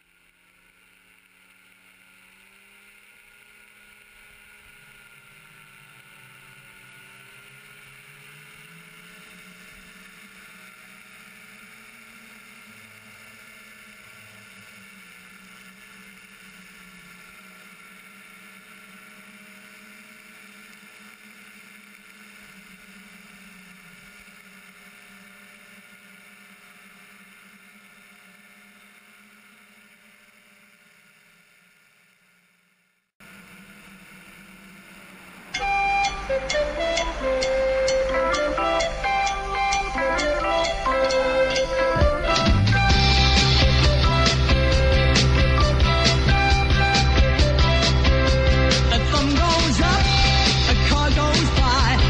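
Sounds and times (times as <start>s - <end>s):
engine and propeller running: 0.0s - 52.0s.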